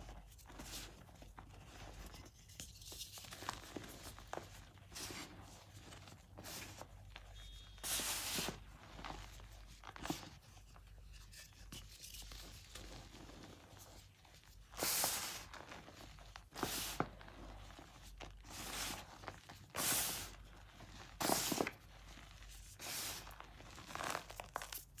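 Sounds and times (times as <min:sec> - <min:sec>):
hands crunching chalk powder: 0:00.0 - 0:06.9, 0:11.8 - 0:25.0.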